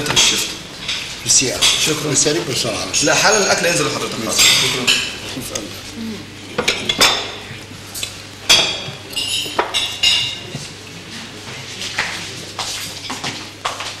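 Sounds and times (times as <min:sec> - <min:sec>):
plates and cutlery clinking: 0:00.0 - 0:05.8, 0:06.5 - 0:14.0.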